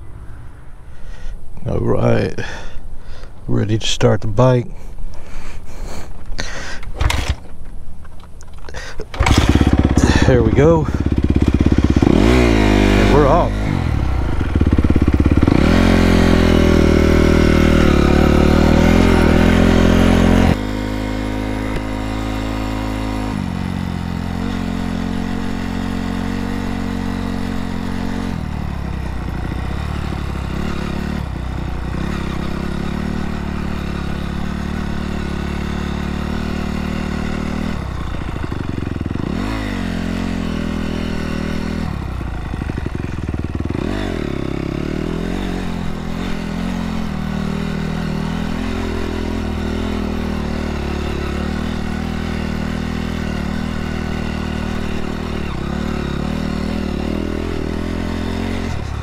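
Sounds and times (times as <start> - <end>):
dirt bike engine running: 5.2 - 59.0.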